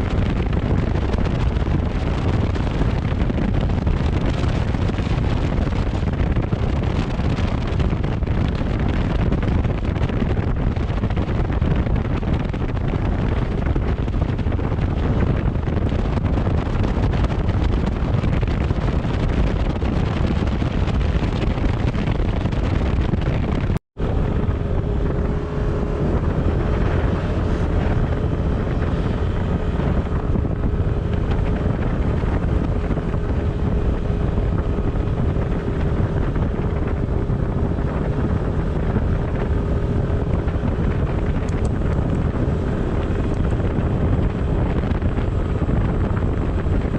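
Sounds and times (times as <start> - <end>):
moving vehicle running noise: 0.0 - 46.9
wind buffeting microphone: 0.0 - 46.9.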